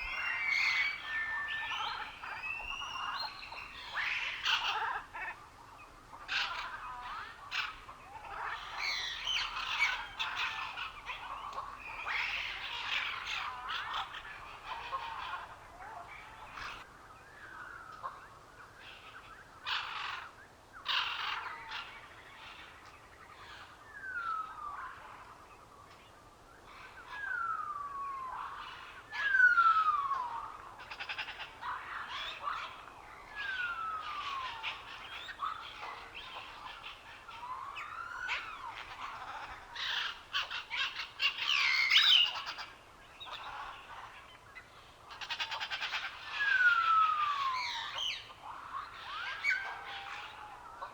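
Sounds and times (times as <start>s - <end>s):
birds chirping and trilling: 0.0s - 50.9s.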